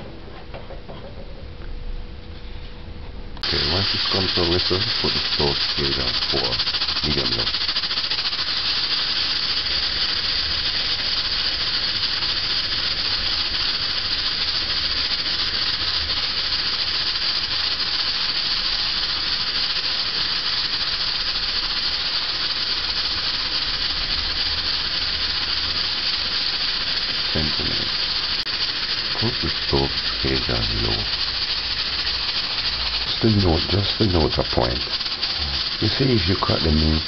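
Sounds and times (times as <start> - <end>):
pressure cooker steam hissing: 3.4 - 37.0.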